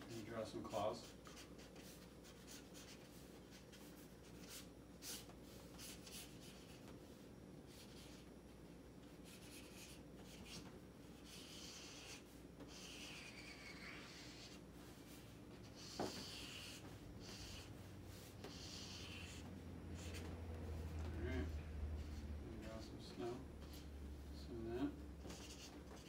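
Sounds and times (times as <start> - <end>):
marker scratching on paper: 0.7 - 8.3, 9.0 - 24.2, 24.8 - 26.0.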